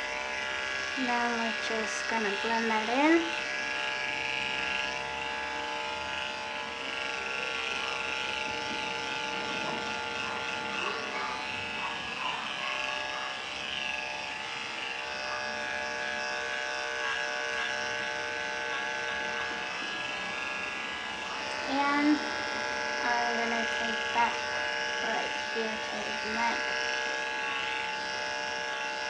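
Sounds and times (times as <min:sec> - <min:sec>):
dog clipper motor buzz: 0:00.0 - 0:29.0.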